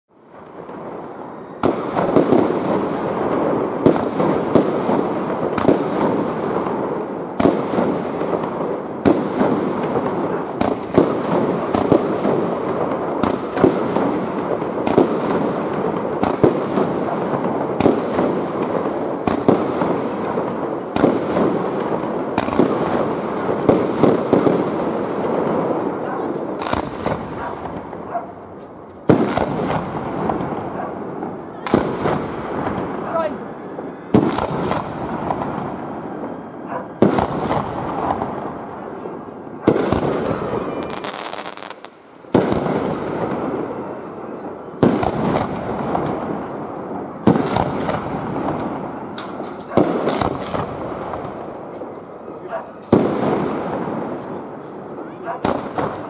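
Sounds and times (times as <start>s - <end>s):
fireworks bangs: 0.2s - 56.0s
fireworks crackle: 0.2s - 56.0s.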